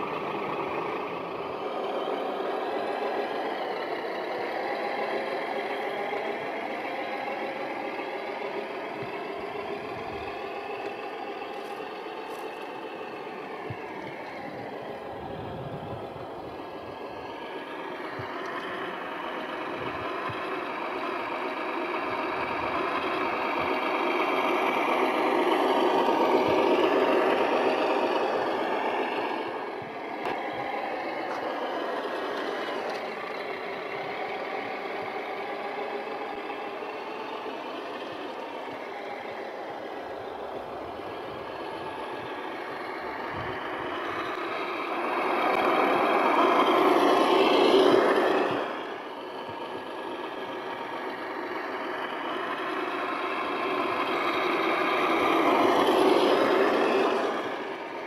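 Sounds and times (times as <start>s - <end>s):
toy truck motor whining: 0.0s - 58.0s.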